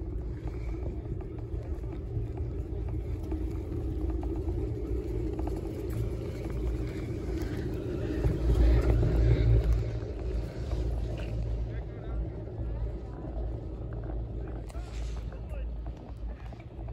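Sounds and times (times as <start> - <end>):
chairlift low rumble and hum: 0.0 - 16.9.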